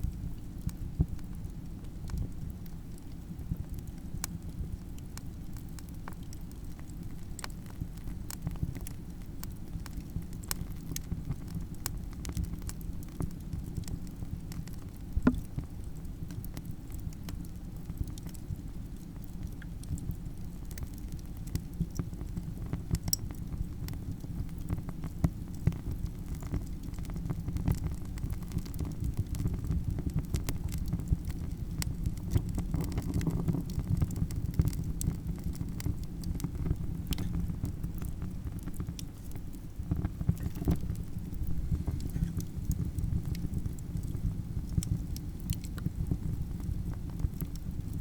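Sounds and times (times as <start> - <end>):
campfire crackling: 0.1 - 48.0.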